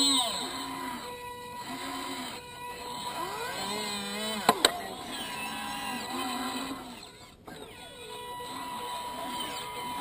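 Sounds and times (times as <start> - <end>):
toy excavator servos whining: 0.0 - 10.0.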